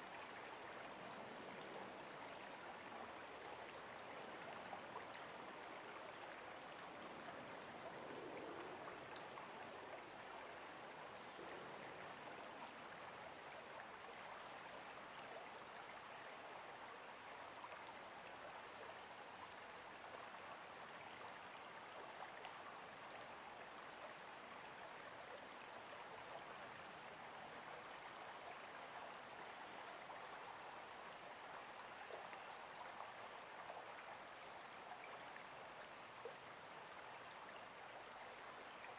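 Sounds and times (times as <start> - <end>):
creek water flowing over rocks: 0.0 - 38.9.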